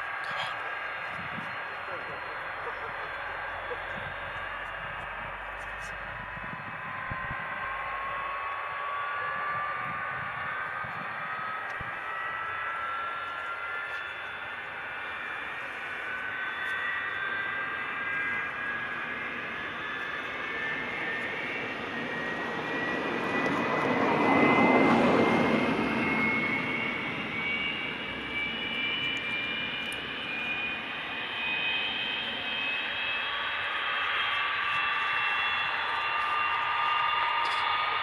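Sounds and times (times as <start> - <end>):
jet engine roar with whine: 0.0 - 38.0.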